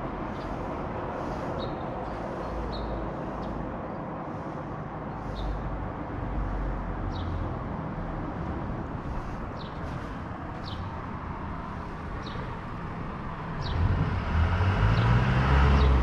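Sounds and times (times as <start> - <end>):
distant traffic: 0.0 - 16.0.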